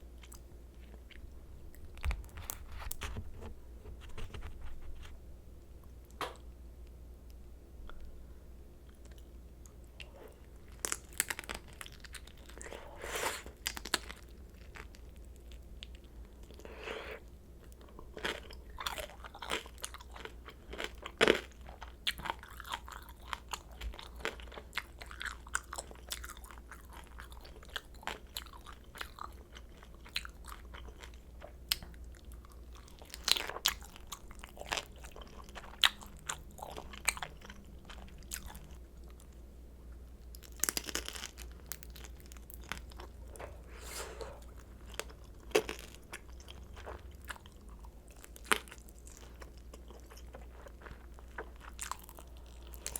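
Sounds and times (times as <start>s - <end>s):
chewing crisp dumplings: 8.8s - 39.5s, 40.1s - 52.9s.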